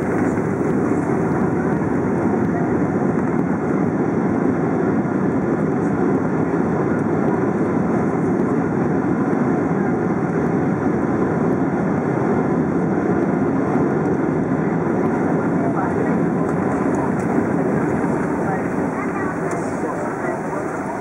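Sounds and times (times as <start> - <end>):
jet engines and airflow in cabin: 0.0 - 21.0.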